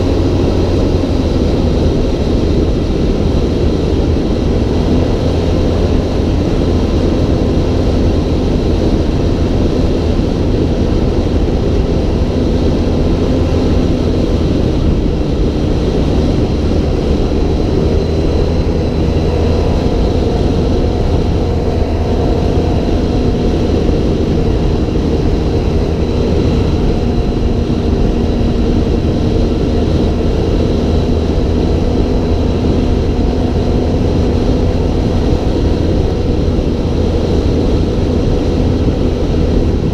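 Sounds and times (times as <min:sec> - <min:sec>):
low rumble: 0:00.0 - 0:39.9
vehicle engine running: 0:00.0 - 0:39.9.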